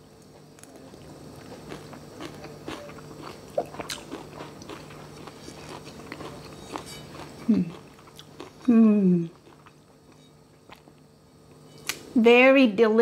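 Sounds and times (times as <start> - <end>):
person chewing crunchy food: 0.2 - 12.0.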